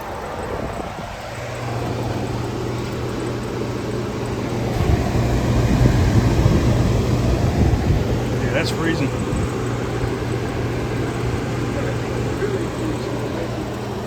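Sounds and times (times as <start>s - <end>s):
heat pump humming and rushing: 0.0s - 14.0s.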